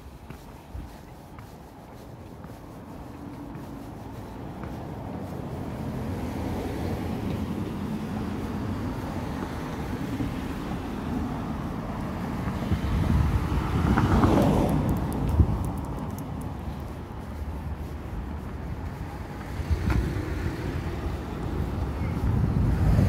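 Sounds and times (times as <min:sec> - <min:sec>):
vehicle passing by: 0:03.0 - 0:23.0.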